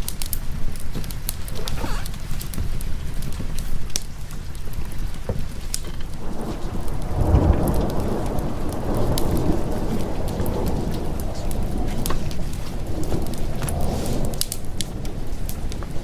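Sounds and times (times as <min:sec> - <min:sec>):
sharp crackles: 0:00.0 - 0:16.0
steady rain: 0:00.0 - 0:16.0
thunder rumbling: 0:00.0 - 0:16.0.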